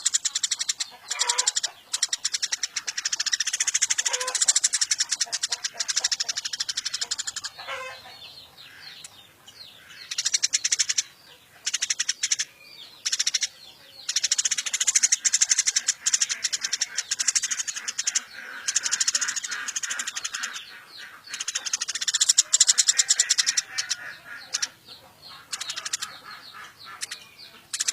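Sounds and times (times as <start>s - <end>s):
sparrow chattering: 0.0s - 27.9s.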